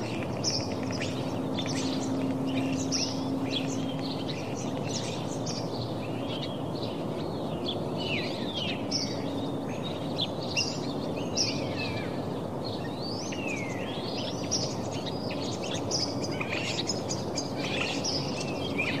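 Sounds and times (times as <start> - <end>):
small birds chirping: 0.0 - 19.0
steady background noise: 0.0 - 19.0.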